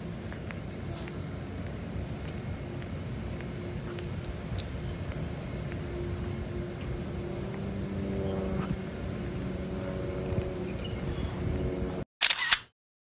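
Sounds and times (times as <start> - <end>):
vehicle rumbling at low speed: 0.0 - 12.0.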